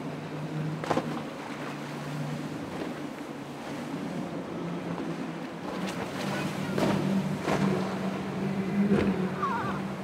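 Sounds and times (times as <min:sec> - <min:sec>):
motorboat engine droning: 0:00.0 - 0:10.0
water rushing: 0:00.0 - 0:10.0.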